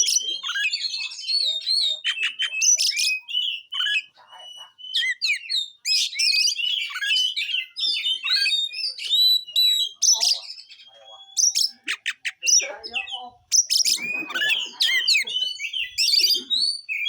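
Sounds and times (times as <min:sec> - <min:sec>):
bird singing whistles and chirps: 0:00.0 - 0:17.0.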